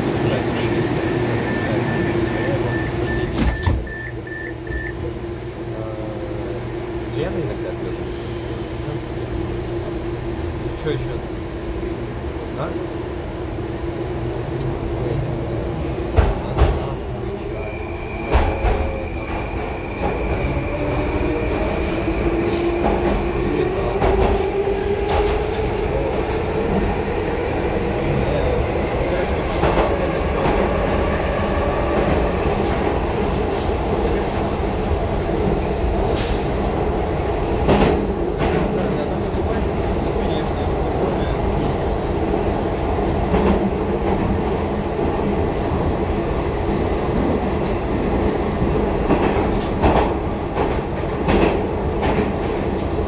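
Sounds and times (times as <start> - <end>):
metro train rumble and rail noise: 0.0 - 53.0.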